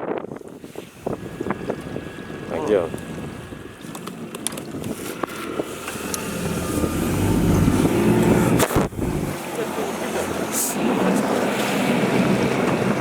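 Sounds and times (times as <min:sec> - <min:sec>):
boat motor running: 0:01.1 - 0:13.0.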